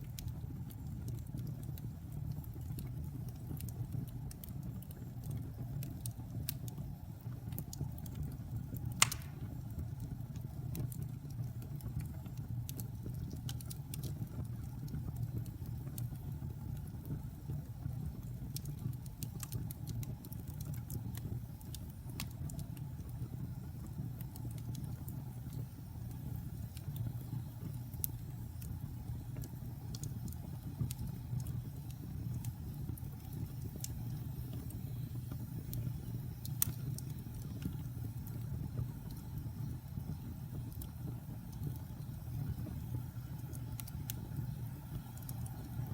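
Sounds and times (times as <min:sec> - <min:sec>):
fire crackling and popping: 0:00.0 - 0:45.9
fire rumbling: 0:00.0 - 0:45.9.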